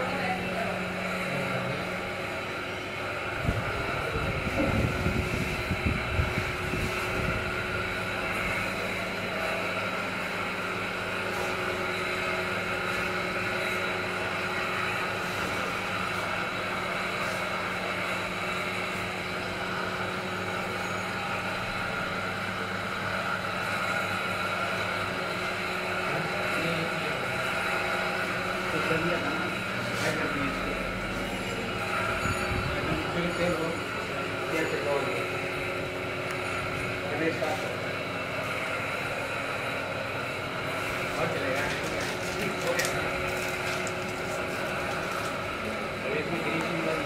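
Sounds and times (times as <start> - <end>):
machine motor hum: 0.0 - 47.0.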